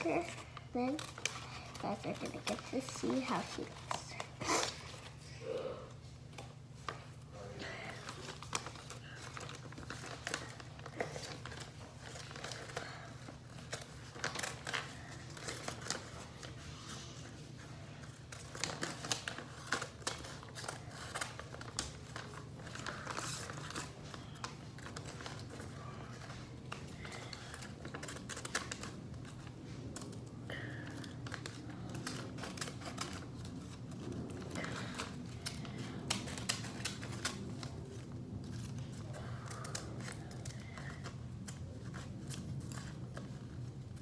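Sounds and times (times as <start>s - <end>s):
paper rustling and crinkling: 0.0s - 5.3s, 6.1s - 44.0s.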